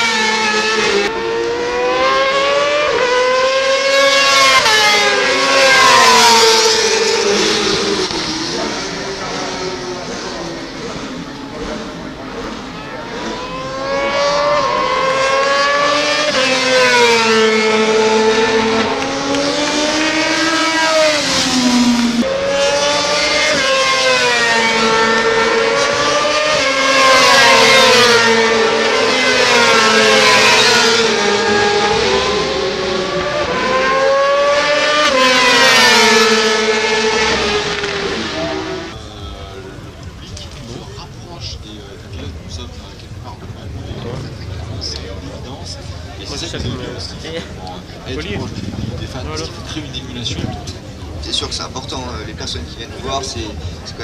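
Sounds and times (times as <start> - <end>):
racing motorcycle engines: 0.0 - 54.0.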